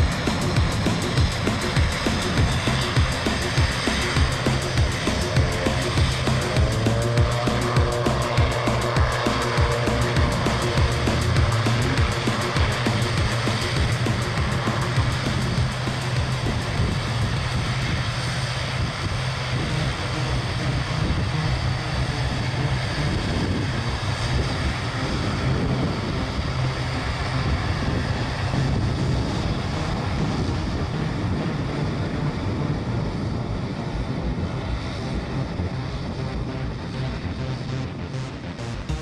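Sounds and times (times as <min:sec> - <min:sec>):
turboprop aircraft taking off: 0:00.0 - 0:39.0.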